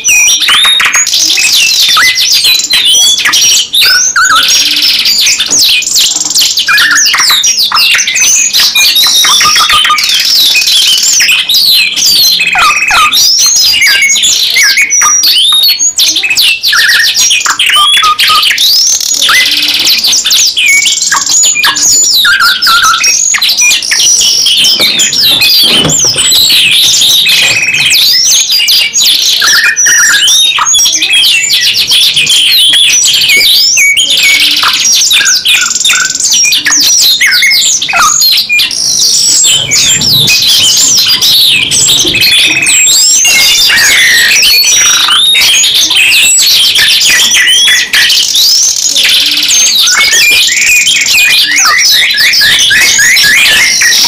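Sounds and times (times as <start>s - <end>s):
songbirds singing trills and whistles: 0.0s - 54.0s.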